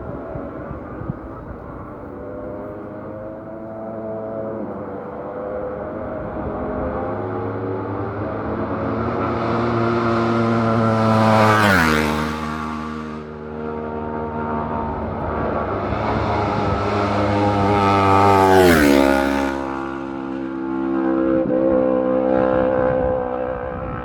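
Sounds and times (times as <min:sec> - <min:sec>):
racing motorcycles passing: 0:00.0 - 0:24.0.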